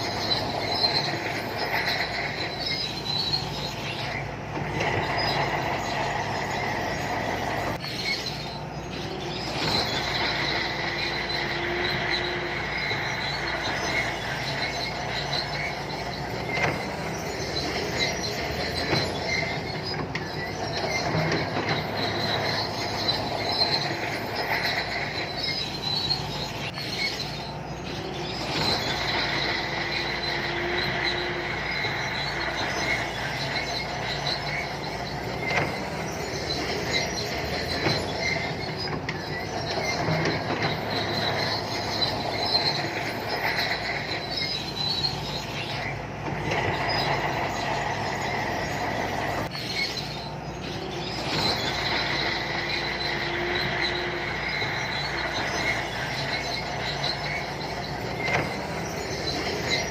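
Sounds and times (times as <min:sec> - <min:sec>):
bulldozer diesel engine running: 0:00.0 - 0:59.9
steel tracks squealing and clanking: 0:00.0 - 0:59.9.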